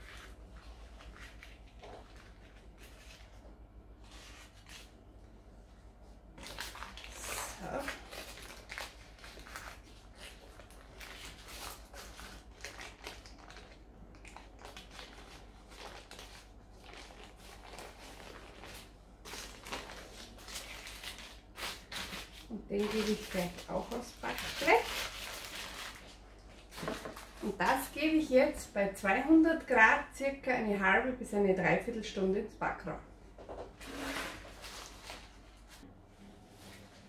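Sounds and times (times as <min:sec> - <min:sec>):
baking paper rustling and crinkling: 0:00.0 - 0:28.6, 0:33.5 - 0:37.0.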